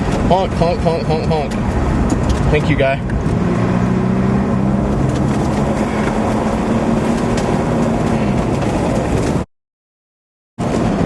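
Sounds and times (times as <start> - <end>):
car engine hum: 0.0 - 9.5, 10.6 - 11.0
road noise inside moving car: 0.0 - 9.5, 10.6 - 11.0.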